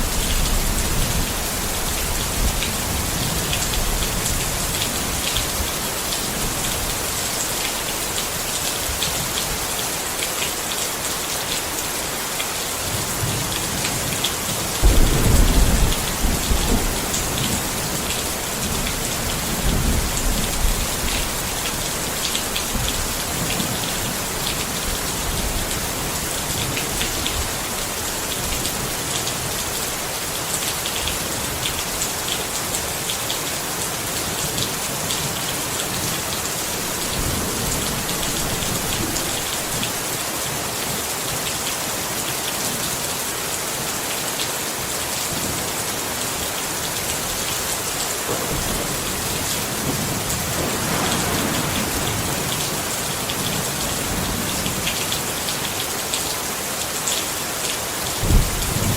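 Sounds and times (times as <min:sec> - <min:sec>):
rain pattering on a tent: 0:00.0 - 0:58.9.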